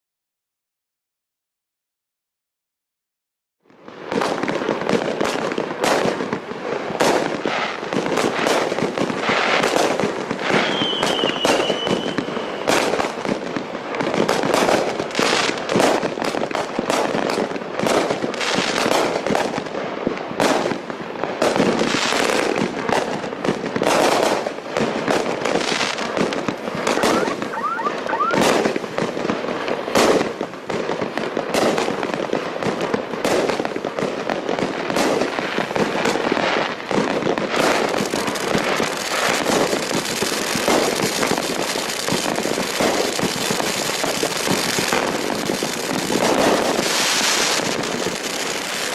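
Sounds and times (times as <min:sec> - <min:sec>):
fireworks launches and aerial bursts: 0:03.6 - 0:48.9.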